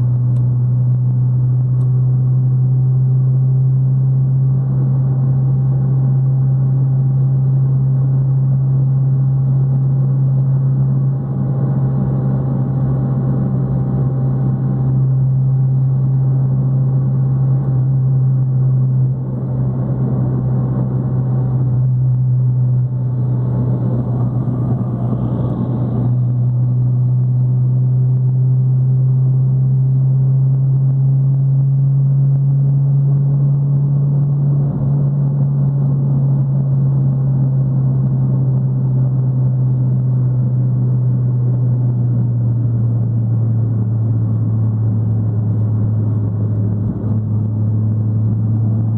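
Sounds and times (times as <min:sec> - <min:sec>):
car exhaust droning: 0:00.0 - 0:48.9
road noise: 0:00.0 - 0:48.9.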